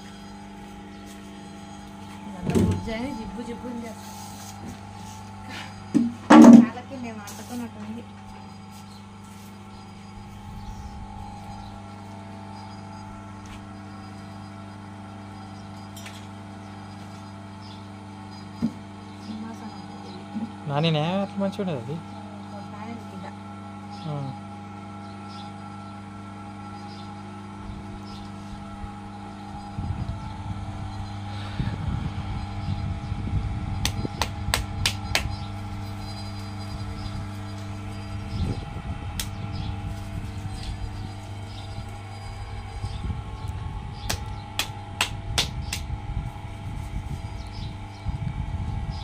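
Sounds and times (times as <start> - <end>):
low electrical hum: 0.0 - 49.0.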